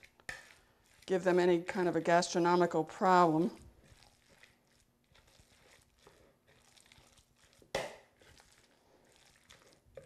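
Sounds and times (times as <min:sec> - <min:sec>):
wet meat mixture squishing: 0:00.0 - 0:10.0.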